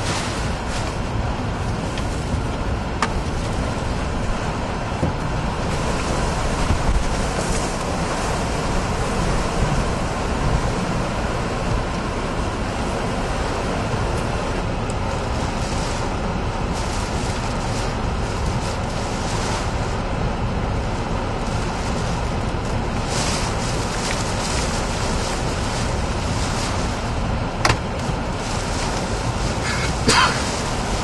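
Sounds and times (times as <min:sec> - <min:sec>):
road noise: 0:00.0 - 0:31.0
strong wind and driving rain: 0:00.0 - 0:31.0
vehicle engine: 0:00.0 - 0:31.0.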